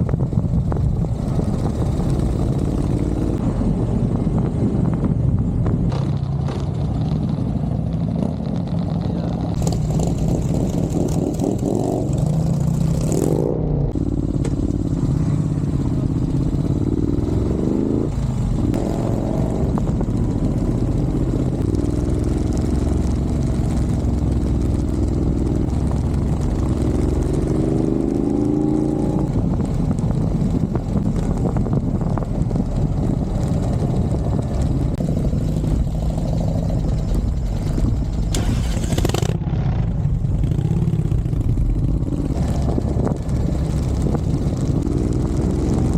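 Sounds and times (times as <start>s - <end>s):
vehicle engines revving: 0.0s - 45.9s
wind and road noise: 0.0s - 45.9s.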